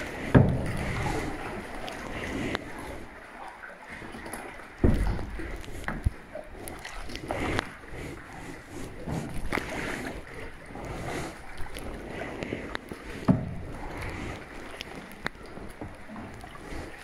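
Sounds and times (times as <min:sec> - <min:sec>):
kayak paddle splashing: 0:00.0 - 0:17.0.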